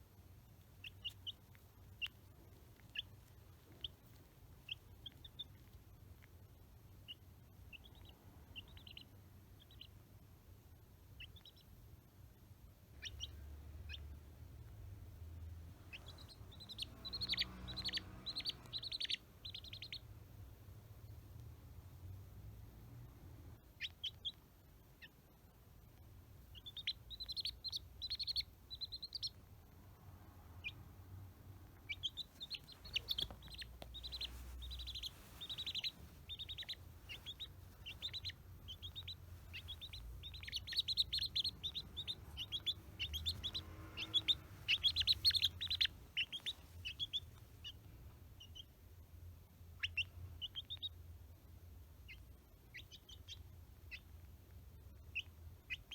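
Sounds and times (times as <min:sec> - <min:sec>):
chick peeping: 0:00.5 - 0:12.1, 0:12.8 - 0:48.8, 0:49.6 - 0:51.2, 0:51.9 - 0:55.9.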